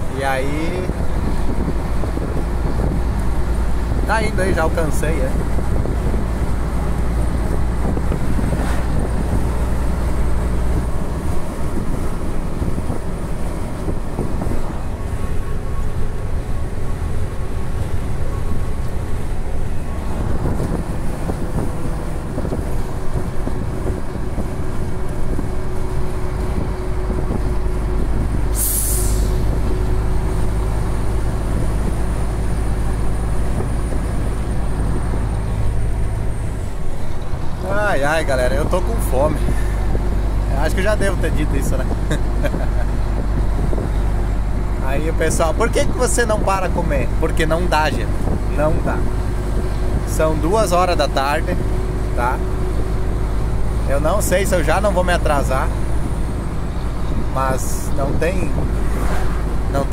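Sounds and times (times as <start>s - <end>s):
truck engine and road drone: 0.0s - 59.9s.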